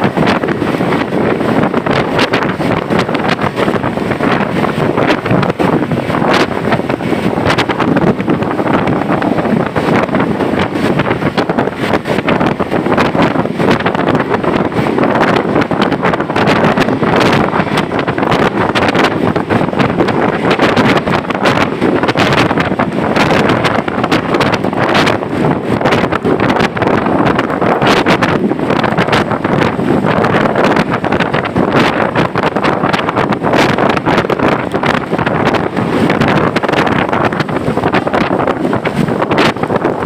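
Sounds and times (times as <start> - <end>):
bus road noise: 0.0 - 40.0
heavy rain: 0.0 - 40.0.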